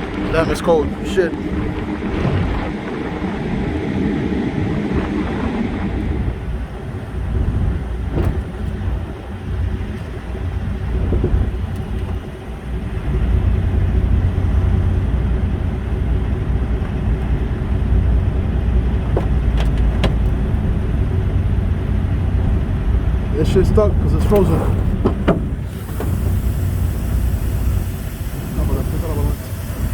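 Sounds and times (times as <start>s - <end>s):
diesel truck engine rumbling: 0.0s - 29.9s.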